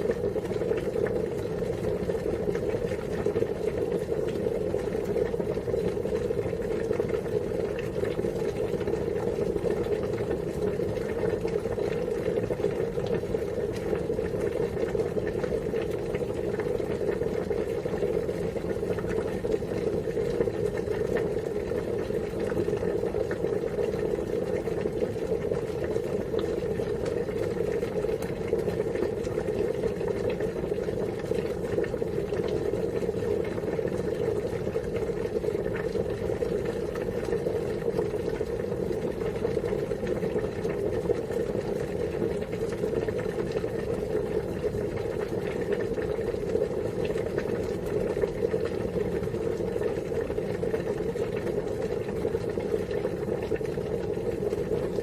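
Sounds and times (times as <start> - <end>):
water boiling: 0.0 - 55.0.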